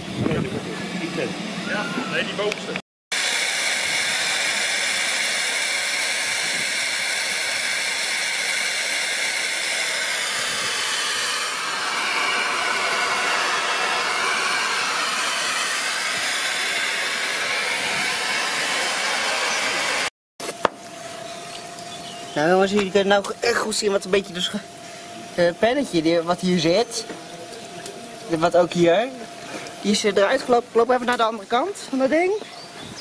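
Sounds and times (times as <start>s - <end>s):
loud steady steam hiss: 3.1s - 33.0s.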